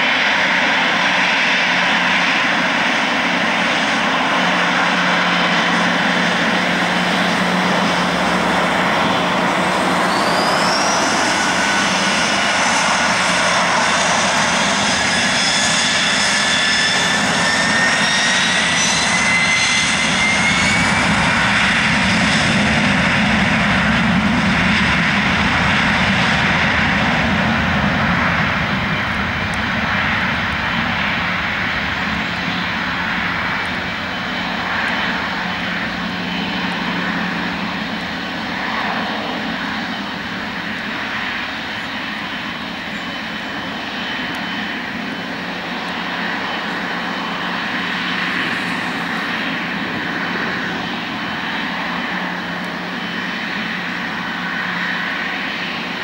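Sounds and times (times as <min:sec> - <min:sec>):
jet engines running: 0:00.0 - 0:56.0
rising engine whine: 0:00.0 - 0:56.0.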